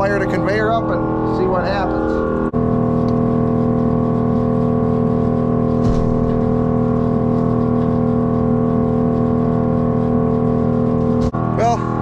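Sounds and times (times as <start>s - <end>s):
blower fan droning: 0.0s - 12.0s.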